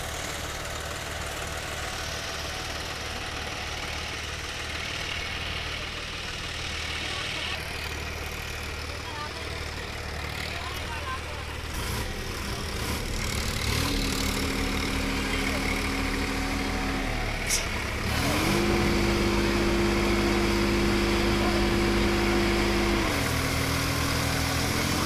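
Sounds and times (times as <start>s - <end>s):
tractor diesel engine straining: 0.0s - 25.0s.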